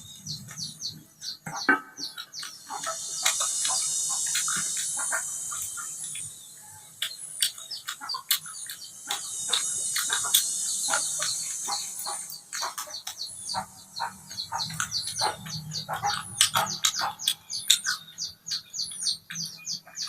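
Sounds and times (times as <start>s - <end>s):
birds chirping: 0.0s - 20.0s
high-pitched insect drone: 2.0s - 20.0s.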